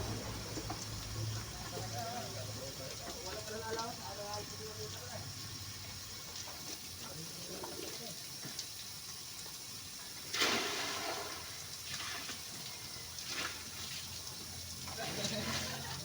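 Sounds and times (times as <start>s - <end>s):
water splashing onto truck: 0.0s - 8.7s, 10.0s - 16.0s.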